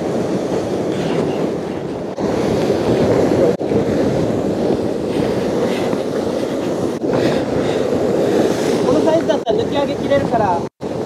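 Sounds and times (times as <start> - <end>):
surf washing against rocks: 0.0 - 11.0
wind buffeting microphone: 0.0 - 11.0.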